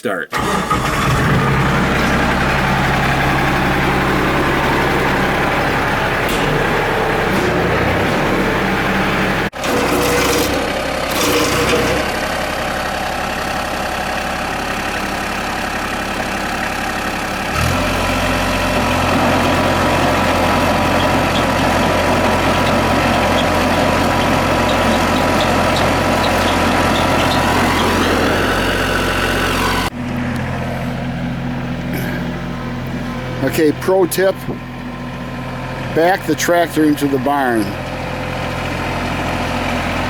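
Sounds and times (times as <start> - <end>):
tractor diesel engine running: 0.3 - 40.0.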